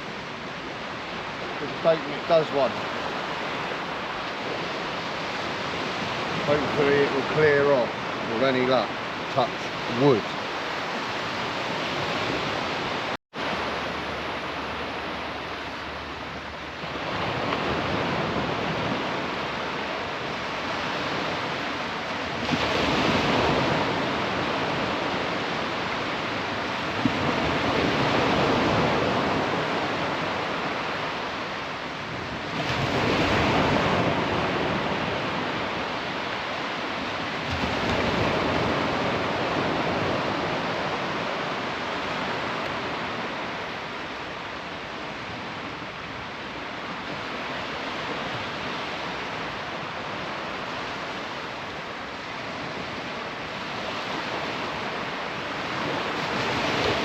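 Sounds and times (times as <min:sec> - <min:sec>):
surf breaking on beach: 0:00.0 - 0:57.0.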